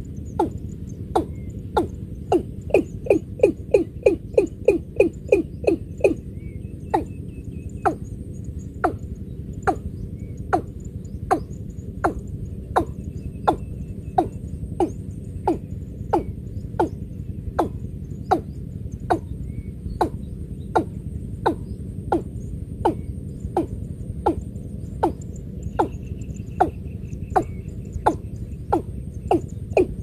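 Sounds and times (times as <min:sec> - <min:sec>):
watercock calling: 0:00.4 - 0:06.2, 0:06.9 - 0:07.2, 0:08.8 - 0:09.0, 0:09.6 - 0:09.8, 0:10.5 - 0:17.0, 0:17.6 - 0:19.3, 0:20.0 - 0:20.2, 0:20.8 - 0:30.0.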